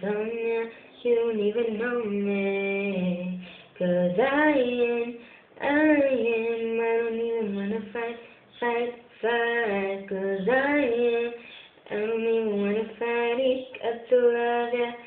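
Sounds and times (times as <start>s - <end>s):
woman singing pop song solo: 0.0s - 15.0s.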